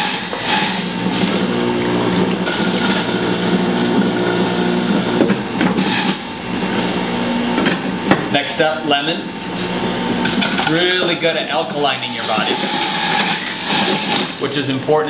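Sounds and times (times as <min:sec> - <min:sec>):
juicer motor hum: 0:00.0 - 0:14.5.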